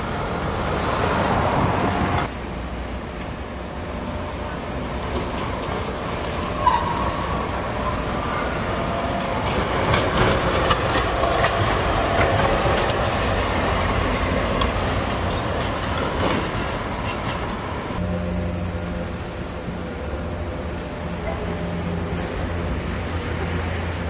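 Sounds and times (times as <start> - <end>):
tram wheels rumbling over rail joints: 0.0 - 24.0
tram wheel squeal: 3.8 - 24.0.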